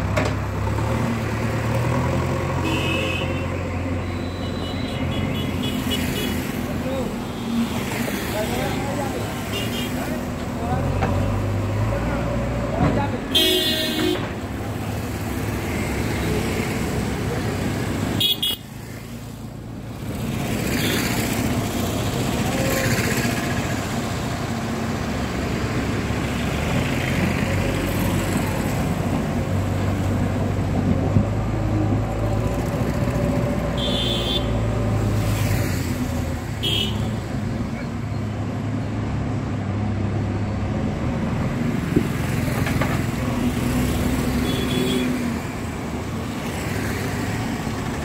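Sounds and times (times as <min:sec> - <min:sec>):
motorcycle and car engines passing: 0:00.0 - 0:13.3, 0:14.0 - 0:48.0.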